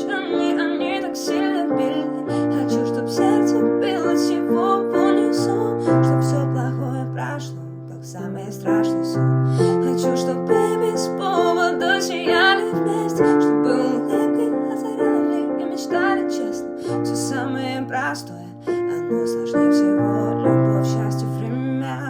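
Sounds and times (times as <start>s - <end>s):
piano playing slow chords: 0.0s - 22.0s
woman singing: 0.0s - 22.0s.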